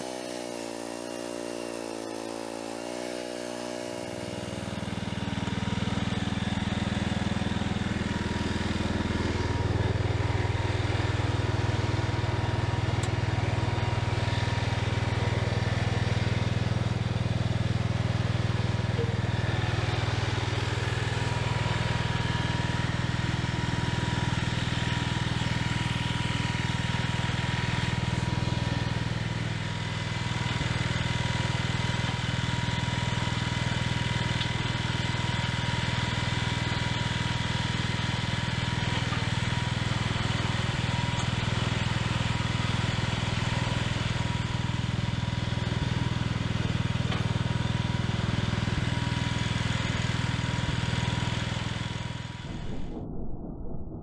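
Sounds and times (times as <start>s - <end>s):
garden tractor engine running: 0.0s - 52.5s.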